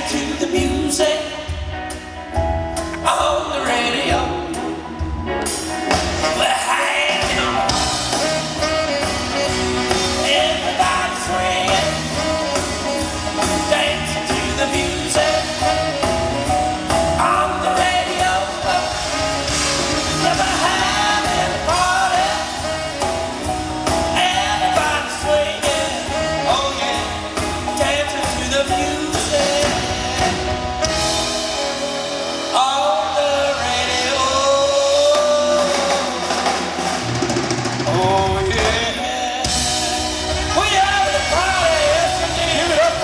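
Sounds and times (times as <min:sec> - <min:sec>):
person singing lead vocal: 0:00.0 - 0:37.1, 0:37.8 - 0:43.0
band playing a song: 0:00.0 - 0:43.0
steady drum beat: 0:00.0 - 0:43.0.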